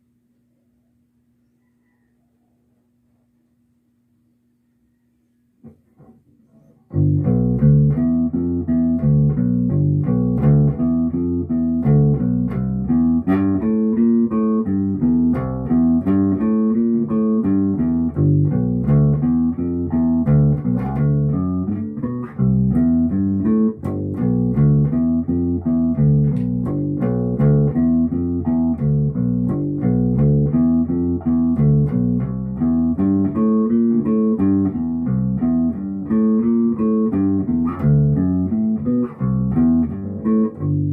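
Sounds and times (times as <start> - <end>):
plucked bass guitar riff: 6.0 - 40.9.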